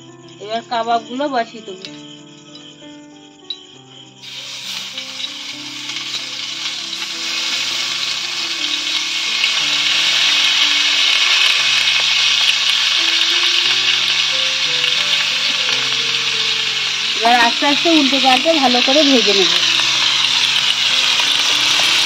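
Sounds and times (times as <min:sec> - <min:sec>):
skewers sizzling on a griddle: 0:04.0 - 0:22.0.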